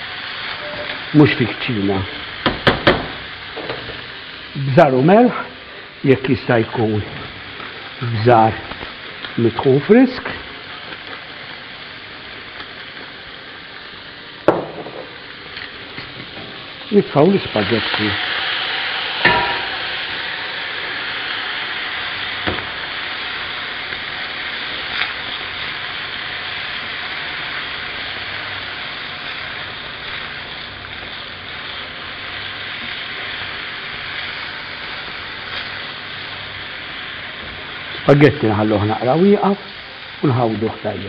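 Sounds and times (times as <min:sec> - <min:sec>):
food sizzling in frying pan: 0:00.0 - 0:41.0.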